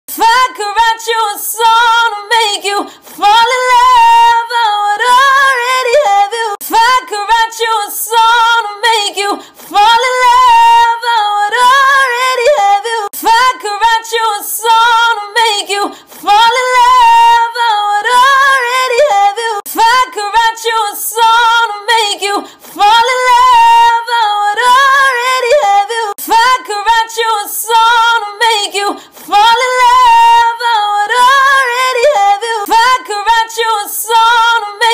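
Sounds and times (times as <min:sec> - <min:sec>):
woman singing unaccompanied: 0:00.1 - 0:34.9.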